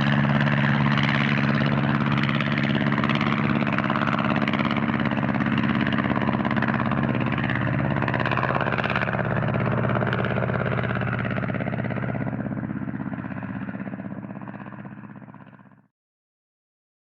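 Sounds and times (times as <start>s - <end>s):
propeller plane engine running: 0.0s - 15.9s.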